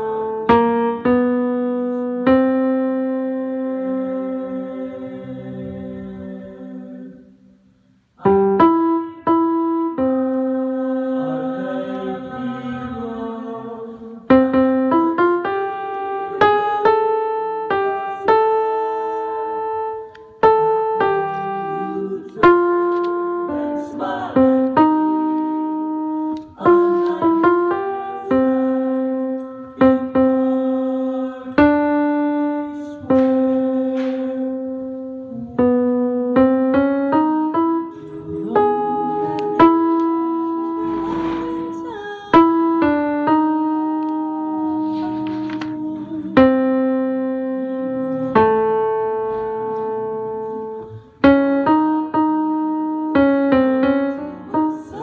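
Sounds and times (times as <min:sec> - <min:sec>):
slow piano melody: 0:00.0 - 0:55.0.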